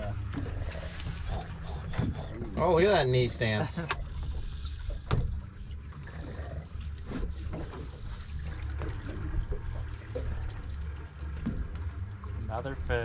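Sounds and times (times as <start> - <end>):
low steady rumble: 0.0 - 13.0
water lapping against hull: 0.0 - 13.0.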